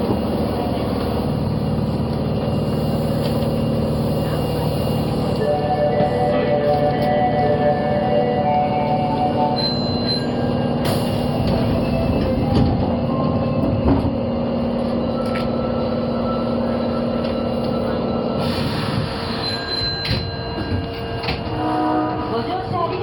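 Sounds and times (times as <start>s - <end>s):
rail rumble: 0.0s - 23.0s
subway train motor tones: 0.0s - 23.0s.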